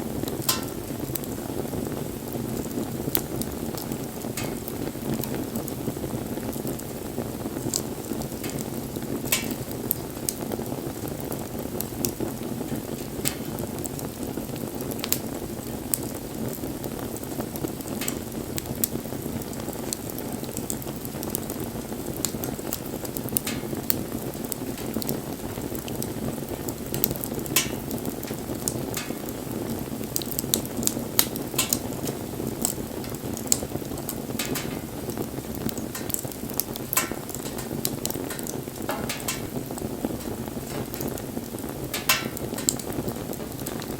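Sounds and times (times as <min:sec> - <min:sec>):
burning wood crackling and popping: 0:00.0 - 0:43.9.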